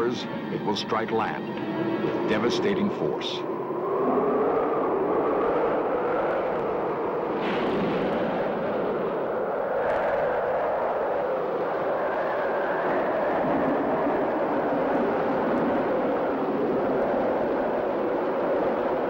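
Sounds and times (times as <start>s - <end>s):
storm wind blowing hard: 0.0s - 19.0s.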